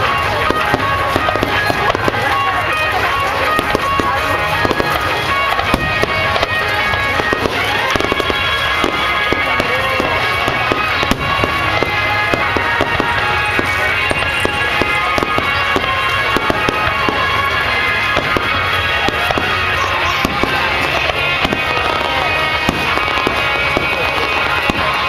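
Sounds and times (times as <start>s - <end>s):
fireworks bangs and crackles: 0.0s - 25.0s
music playing: 0.0s - 25.0s.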